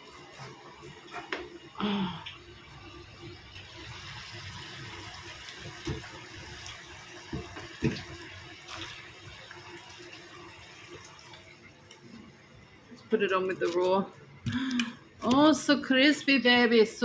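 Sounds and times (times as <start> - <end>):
potatoes deep-frying in oil: 0.0 - 17.0.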